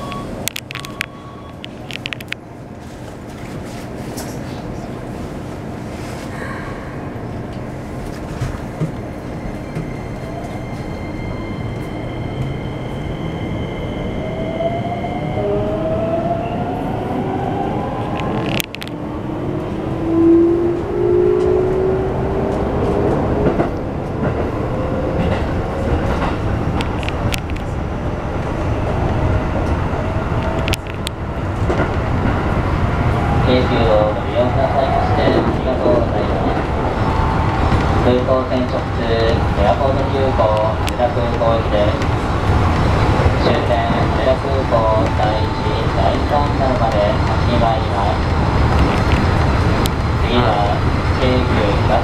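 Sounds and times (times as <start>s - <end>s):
wheels rumbling on rails: 0.0s - 52.0s.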